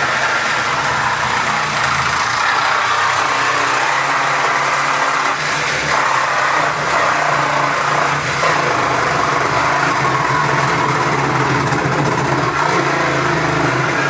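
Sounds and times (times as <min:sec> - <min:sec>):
power saw cutting sheet metal: 0:00.0 - 0:14.0.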